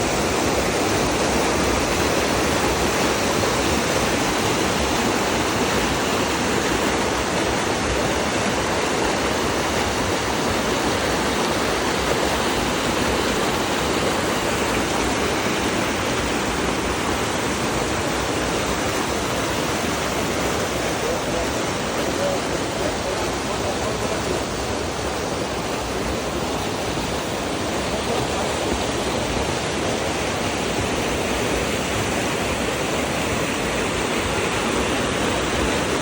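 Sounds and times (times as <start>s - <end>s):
spring water flowing: 0.0s - 36.0s.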